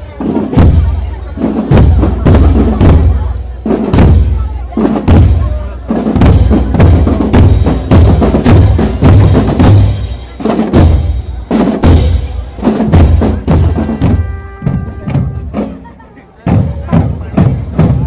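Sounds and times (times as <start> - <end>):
bass drums beating: 0.0 - 15.9, 16.5 - 18.0
snare drums: 0.0 - 18.0.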